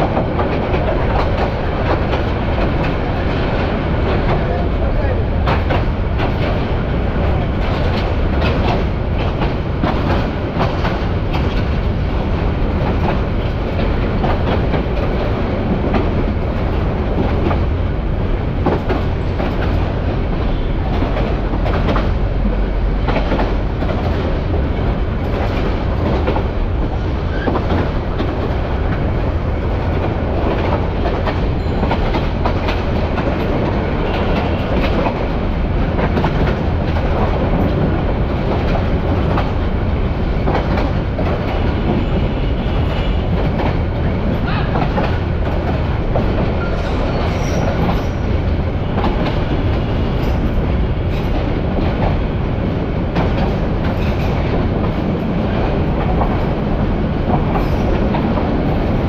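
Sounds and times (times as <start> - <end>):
train carriage rumble and rattle: 0.0 - 59.0.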